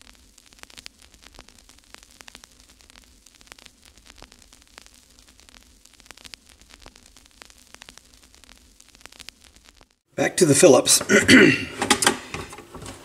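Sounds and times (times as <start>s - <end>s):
crackling static: 0.0s - 13.0s.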